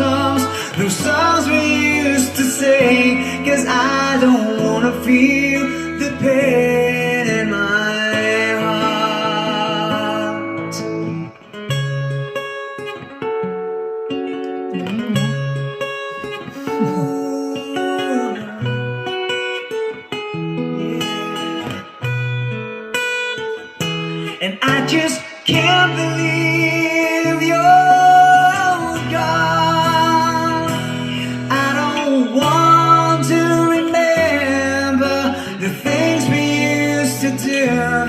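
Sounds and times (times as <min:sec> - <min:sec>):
lead guitar melody with bent notes: 0:00.0 - 0:38.0.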